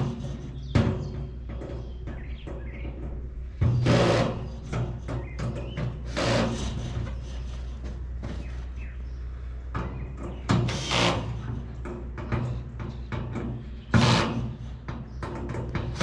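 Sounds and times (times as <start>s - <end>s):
metal scraping thuds: 0.0s - 9.0s, 9.7s - 16.0s.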